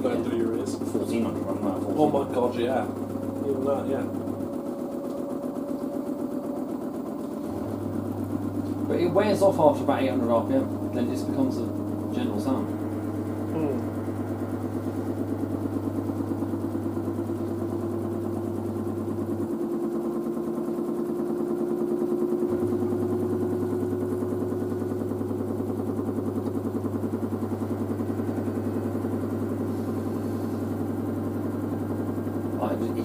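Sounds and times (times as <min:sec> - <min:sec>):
washing machine drum spinning: 0:00.0 - 0:33.0.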